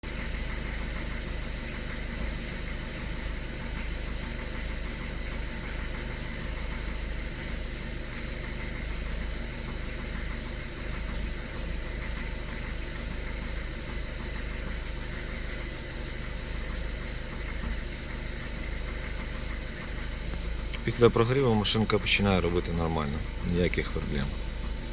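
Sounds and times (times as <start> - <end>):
diesel engine idling with knock: 0.0 - 24.9.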